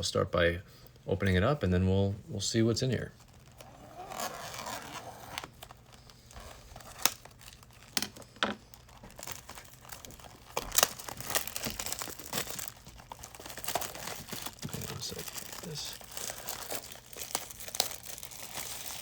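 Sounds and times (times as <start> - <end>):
wrapping crinkling and tearing: 2.8 - 19.0.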